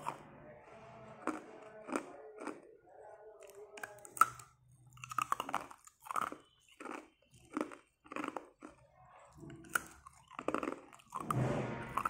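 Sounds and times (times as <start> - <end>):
ice crunching between teeth: 1.2 - 2.7, 3.8 - 12.0.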